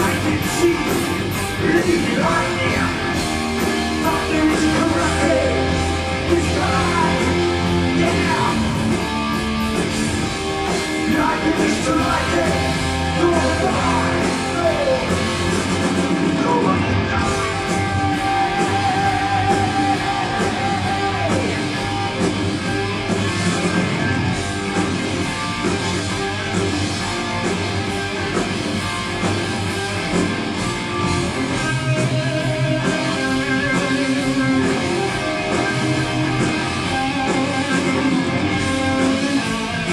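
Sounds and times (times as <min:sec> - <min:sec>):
electric guitars: 0:00.0 - 0:39.9
heavy metal band playing: 0:00.0 - 0:39.9.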